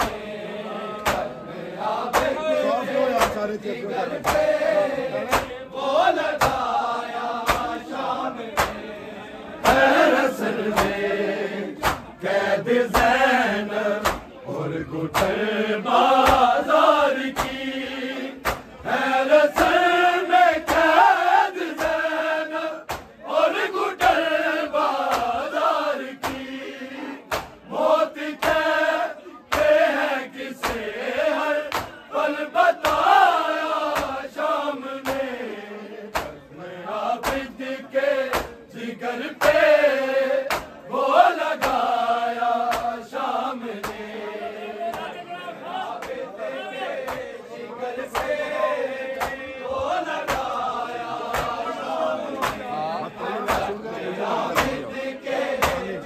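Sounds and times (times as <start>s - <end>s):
men chanting in unison: 0.0s - 56.0s
rhythmic chest-beating slaps: 0.0s - 56.0s.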